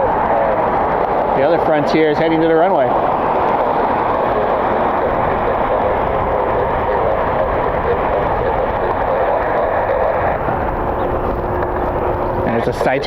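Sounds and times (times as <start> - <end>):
jet engines running: 0.0 - 13.0
wind buffeting microphone: 0.0 - 13.0.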